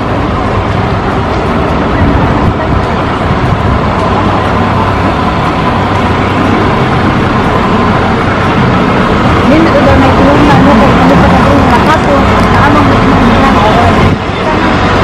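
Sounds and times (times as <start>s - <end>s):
bus engine hum: 0.0s - 15.0s
street traffic rush: 0.0s - 15.0s.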